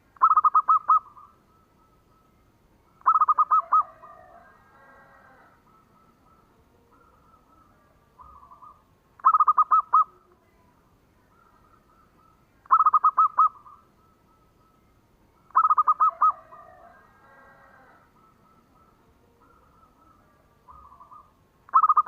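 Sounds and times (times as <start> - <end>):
dove cooing: 0.0 - 2.3, 3.0 - 10.3, 11.2 - 14.8, 15.4 - 22.0
faint cooing of other doves: 0.0 - 22.0.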